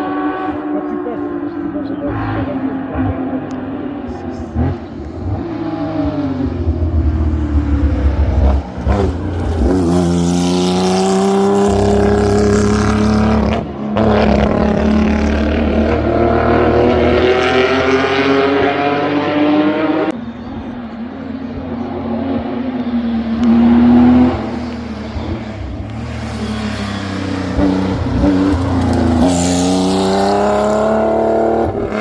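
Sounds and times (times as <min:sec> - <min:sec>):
racing car engine accelerating: 0:00.0 - 0:20.2, 0:21.8 - 0:32.0.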